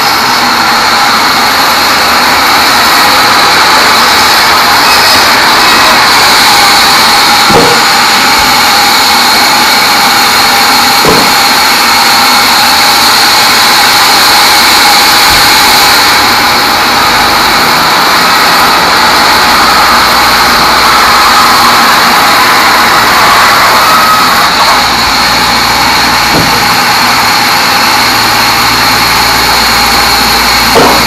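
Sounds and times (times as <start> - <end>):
band saw sawing wood: 0.0 - 31.0.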